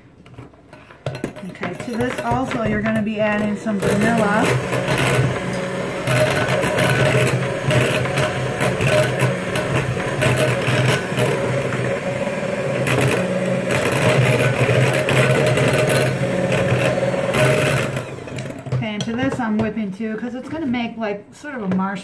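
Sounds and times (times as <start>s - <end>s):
electric mixer running: 1.0s - 18.8s.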